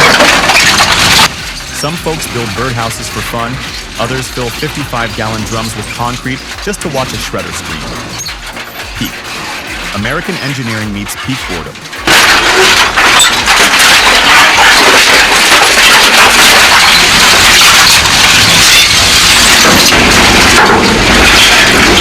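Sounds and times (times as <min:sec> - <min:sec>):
shredder crunching steel drums: 0:00.0 - 0:22.0.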